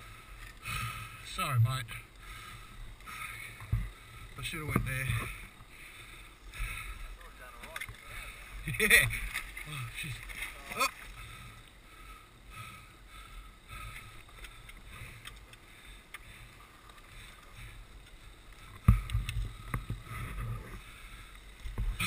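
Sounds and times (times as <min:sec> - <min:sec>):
dirt bike engines idling: 0:00.0 - 0:22.0.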